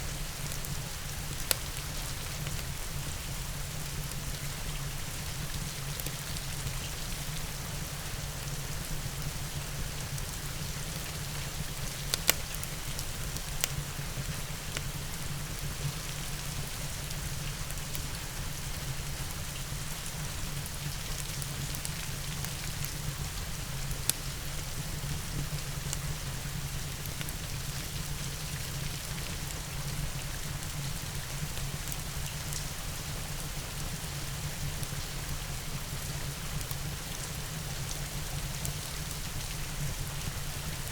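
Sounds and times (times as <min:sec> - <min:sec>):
steady rain: 0:00.0 - 0:40.9
wood fire crackling: 0:00.2 - 0:40.7.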